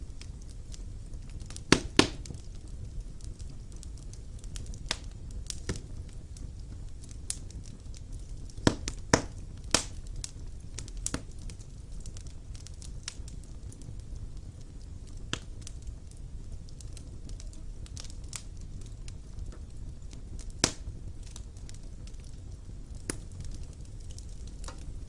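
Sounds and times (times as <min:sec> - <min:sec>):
low rumble of flames: 0:00.0 - 0:25.0
wood fire crackling: 0:00.0 - 0:25.0.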